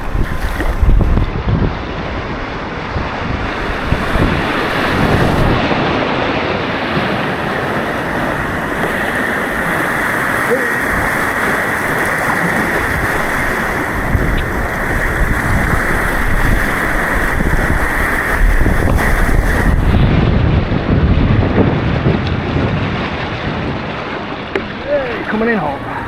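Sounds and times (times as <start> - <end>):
rushing white water: 0.0 - 26.0
wind buffeting microphone: 0.0 - 26.0.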